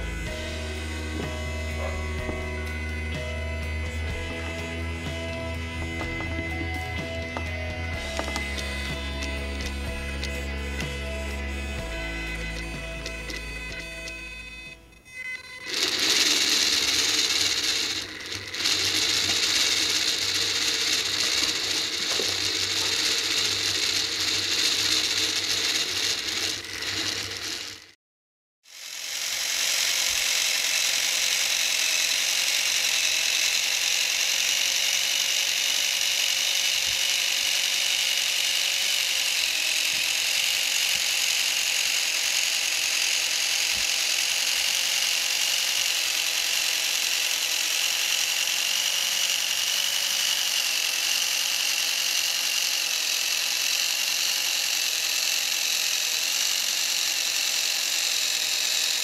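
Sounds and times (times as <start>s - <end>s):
small electric motor whining: 0.0s - 28.0s, 28.6s - 59.0s.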